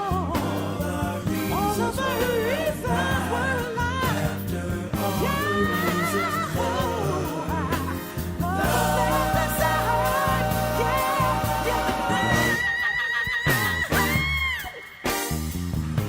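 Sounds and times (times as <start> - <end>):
steady bass line: 0.0 - 12.8, 13.5 - 14.5, 15.3 - 16.0.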